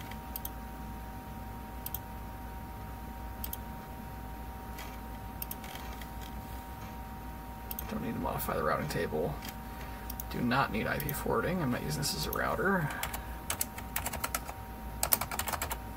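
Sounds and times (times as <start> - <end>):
faint two-tone whine: 0.0 - 15.9
steady hum: 0.0 - 15.9.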